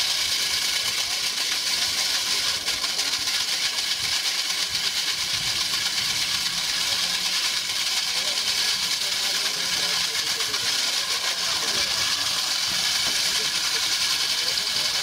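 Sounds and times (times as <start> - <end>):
core drill grinding into concrete: 0.0 - 15.0.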